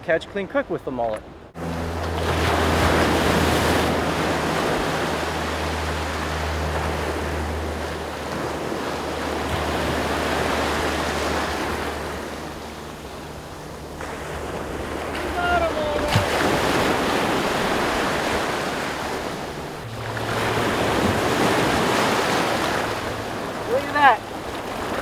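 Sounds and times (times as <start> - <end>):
low steady rumble: 1.2 - 25.0
ocean surf breaking: 1.5 - 25.0.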